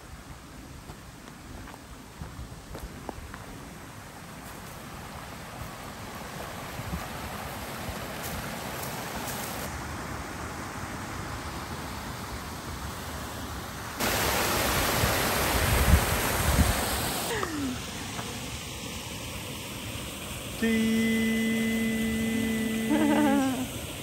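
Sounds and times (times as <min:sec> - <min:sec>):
small waterfall rushing: 0:00.0 - 0:24.0.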